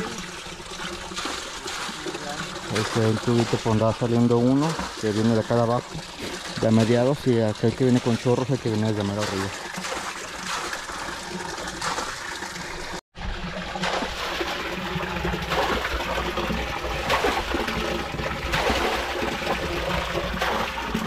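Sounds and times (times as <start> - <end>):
water trickling into a tank: 0.0 - 21.0.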